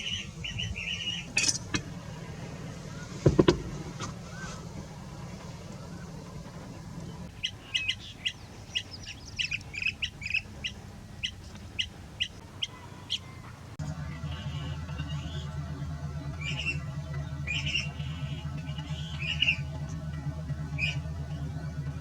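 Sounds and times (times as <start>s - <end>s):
birds chirping sharply: 0.0s - 3.3s, 3.9s - 22.0s
steady low rumble: 0.0s - 22.0s.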